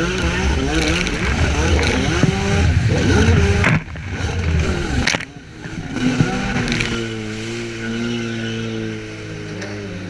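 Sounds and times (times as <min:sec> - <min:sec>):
watercraft engines running hard: 0:00.0 - 0:10.0.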